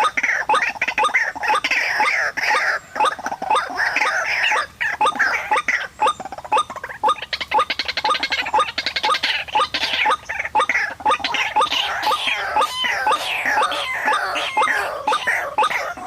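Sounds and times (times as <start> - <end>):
harsh croaking bird calls: 0.0 - 16.0.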